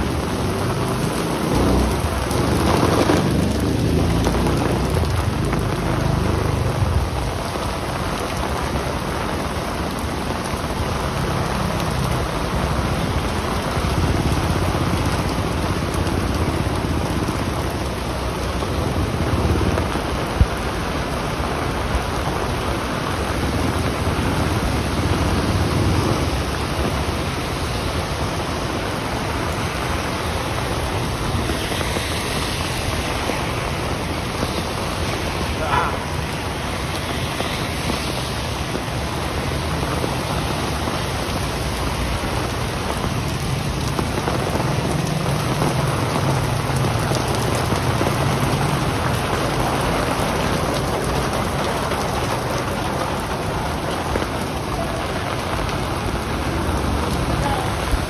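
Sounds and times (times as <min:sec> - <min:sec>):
heavy rain on street: 0:00.0 - 0:58.0.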